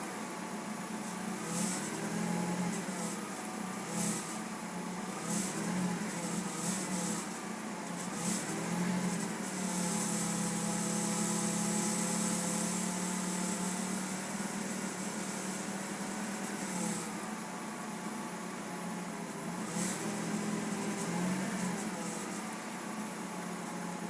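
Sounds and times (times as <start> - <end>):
car engine at light throttle: 0.0 - 24.0
strange engine noise: 0.0 - 24.0.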